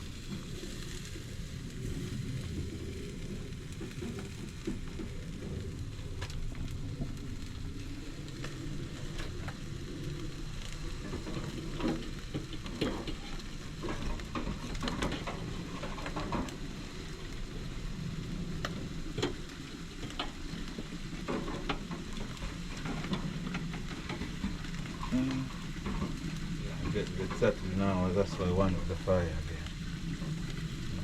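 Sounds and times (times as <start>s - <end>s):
chicken sizzling on a grill: 0.0s - 31.0s
crackles and pops: 0.0s - 31.0s.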